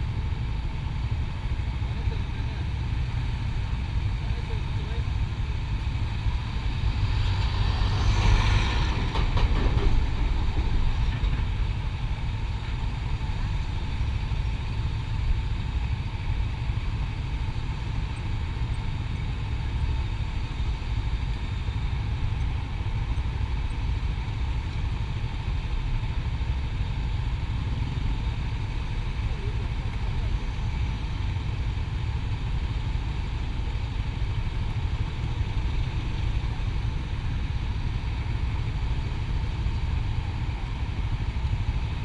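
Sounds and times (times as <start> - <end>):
motorcycle running: 0.0 - 42.0
road noise: 0.0 - 42.0.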